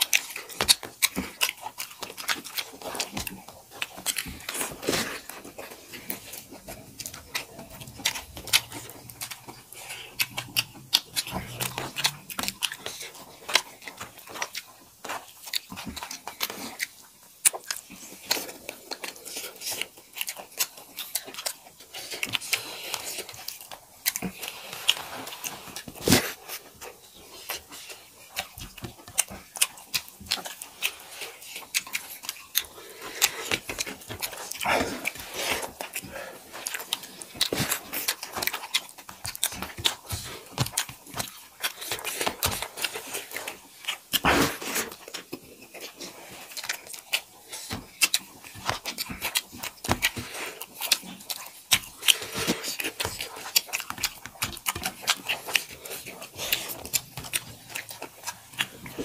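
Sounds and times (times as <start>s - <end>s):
fingers squishing rice on plates: 0.0s - 59.0s
wet chewing and lip smacking: 0.0s - 59.0s.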